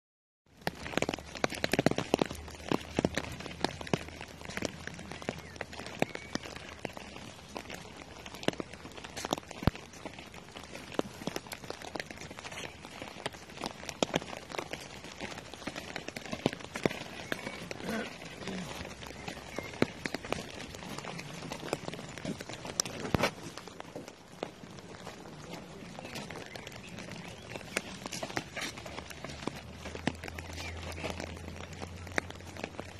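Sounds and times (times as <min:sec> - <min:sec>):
rain tapping on umbrella: 0:00.5 - 0:32.9.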